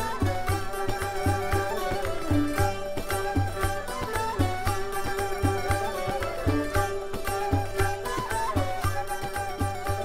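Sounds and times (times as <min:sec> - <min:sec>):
plucked string melody: 0:00.0 - 0:10.0.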